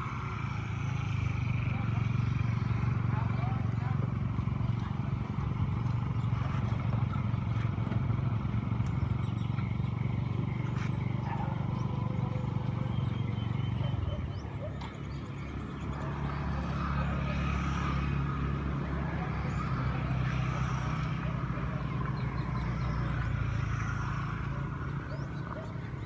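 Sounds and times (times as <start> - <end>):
boat engine running: 0.8 - 26.0.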